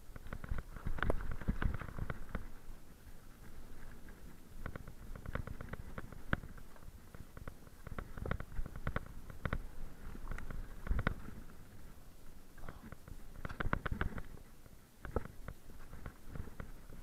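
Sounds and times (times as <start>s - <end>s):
bike knocking and rattling on stones: 0.0s - 17.0s.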